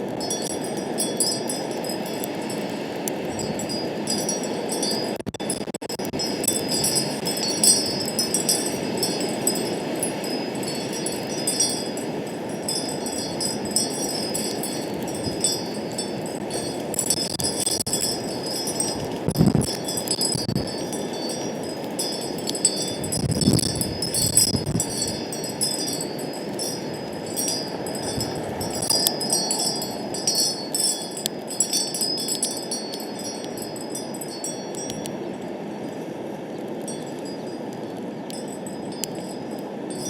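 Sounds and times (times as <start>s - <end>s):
wind chimes tinkling: 0.0s - 36.0s, 36.6s - 40.0s
wind rumbling on microphone: 0.0s - 40.0s.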